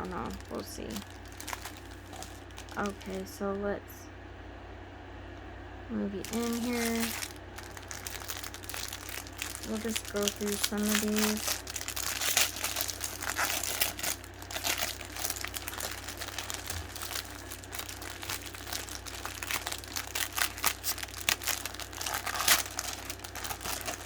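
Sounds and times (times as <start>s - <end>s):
plastic bags crinkling: 0.0s - 3.3s, 6.2s - 24.0s.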